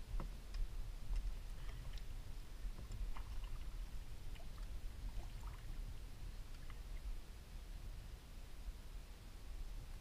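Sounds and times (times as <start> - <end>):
faint water sounds: 0.0 - 10.0
steady low rumble: 0.0 - 10.0.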